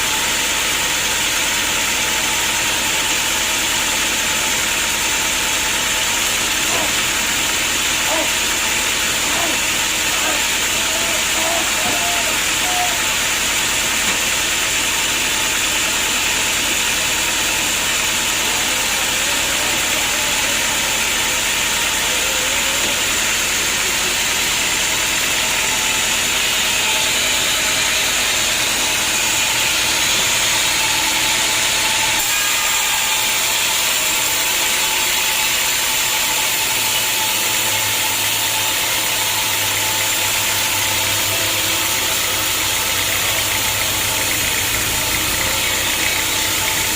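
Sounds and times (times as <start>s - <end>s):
sawmill engine and saw running: 0.0s - 46.9s.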